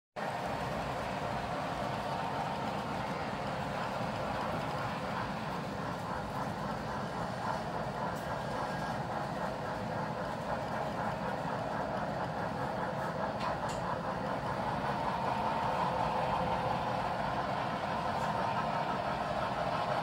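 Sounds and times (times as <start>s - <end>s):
model train wheels clattering: 1.8s - 20.0s.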